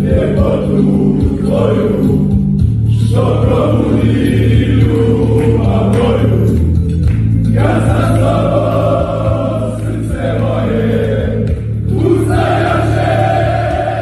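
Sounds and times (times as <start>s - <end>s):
men chanting in unison: 0.0s - 6.7s, 7.5s - 14.0s.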